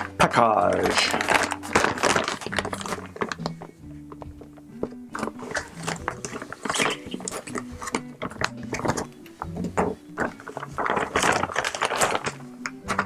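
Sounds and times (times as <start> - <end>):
plastic bag crinkling: 0.0 - 3.8, 5.1 - 13.0
quiet background music: 0.0 - 13.0.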